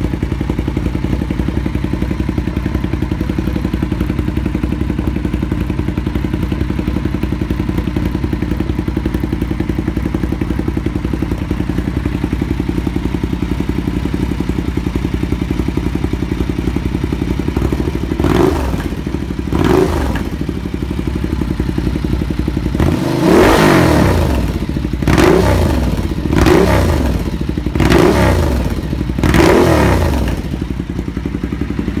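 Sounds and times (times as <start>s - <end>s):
motorcycle engine idling and revving: 0.0s - 32.0s.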